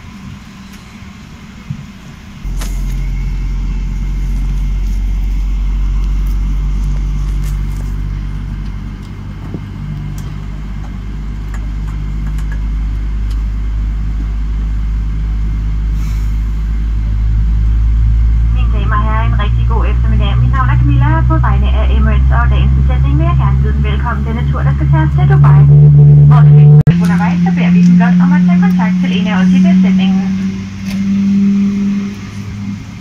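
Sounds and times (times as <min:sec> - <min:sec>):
airliner cabin hum: 0:00.0 - 0:33.0
jet engines rumbling: 0:00.0 - 0:33.0.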